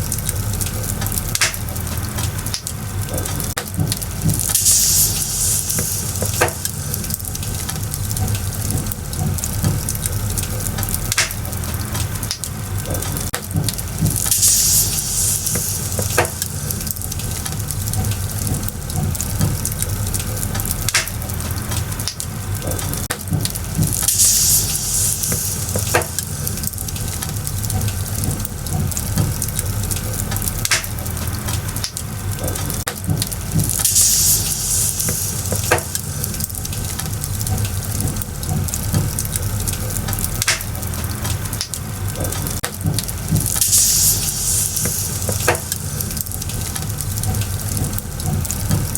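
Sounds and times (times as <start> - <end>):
bonfire hissing: 0.0 - 48.9
fire crackling and popping: 0.0 - 48.9.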